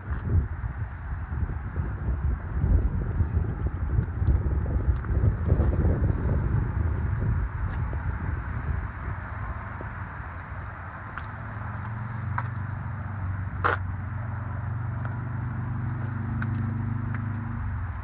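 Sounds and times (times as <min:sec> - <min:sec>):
light wind noise: 0:00.0 - 0:18.0
vehicle engine humming: 0:00.0 - 0:18.0.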